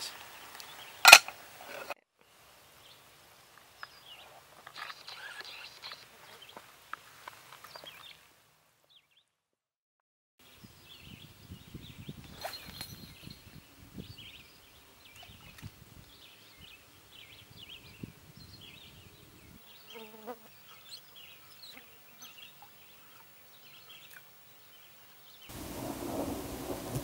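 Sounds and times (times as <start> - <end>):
small birds chirping: 0.0 - 6.7, 7.6 - 8.3, 10.4 - 26.3.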